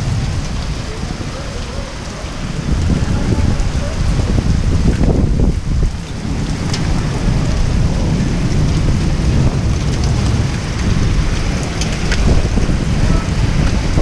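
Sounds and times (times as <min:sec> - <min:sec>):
deep low rumble: 0:00.0 - 0:14.0
heavy rain pouring: 0:00.0 - 0:14.0
sharp raindrop hits: 0:00.0 - 0:14.0.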